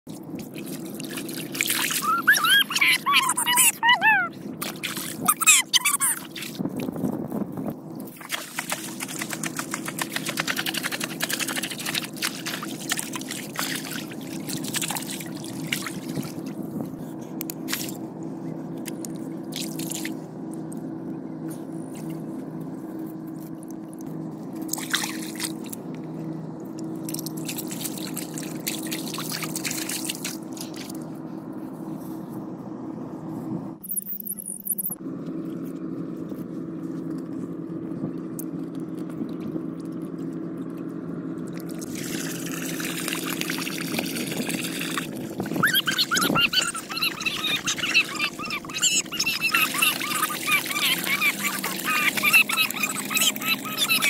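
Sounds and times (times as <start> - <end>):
low hum: 0.1 - 54.0.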